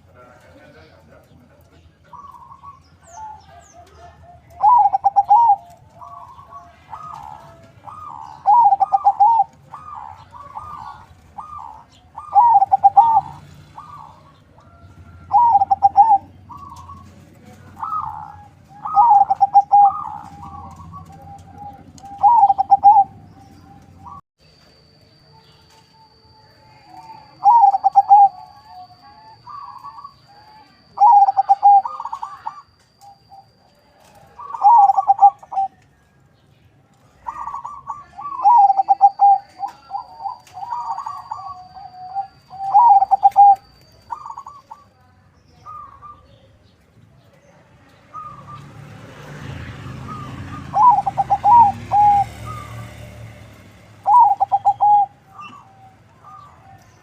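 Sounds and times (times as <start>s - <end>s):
dove cooing: 0.0s - 24.2s, 26.9s - 35.9s, 37.0s - 45.0s, 45.6s - 46.4s, 48.1s - 48.6s, 50.0s - 57.0s.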